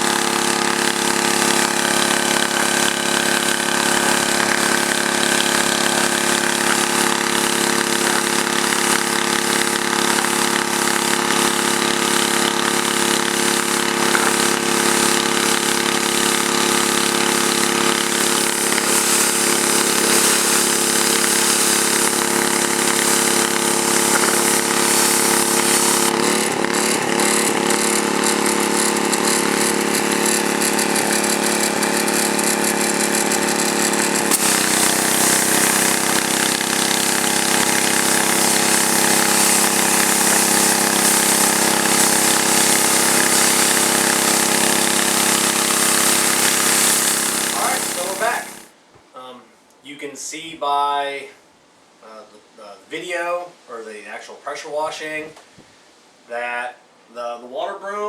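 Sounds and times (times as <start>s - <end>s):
water spraying onto concrete: 0.0s - 48.7s
pressure washer engine running: 0.0s - 48.8s.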